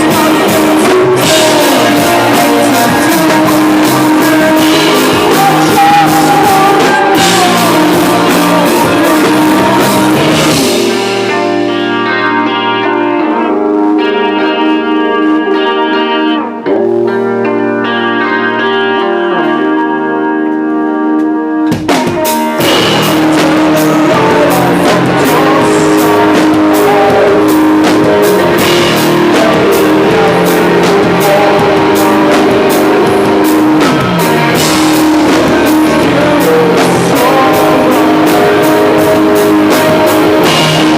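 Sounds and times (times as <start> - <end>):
guitar chords ringing: 0.0 - 40.9
live rock band playing: 0.0 - 40.9.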